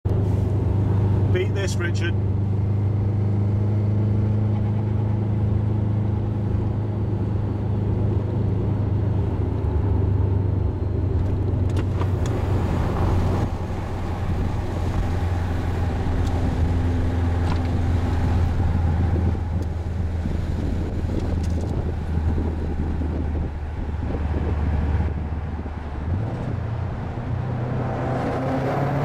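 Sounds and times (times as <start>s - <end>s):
wind and road noise: 0.0s - 29.0s
car engine droning: 0.1s - 29.0s.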